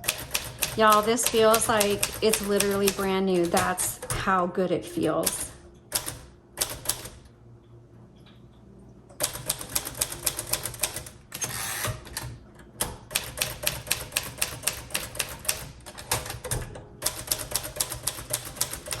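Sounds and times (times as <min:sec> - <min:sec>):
typewriter keystrokes: 0:00.0 - 0:04.2, 0:05.2 - 0:07.2, 0:09.2 - 0:19.0.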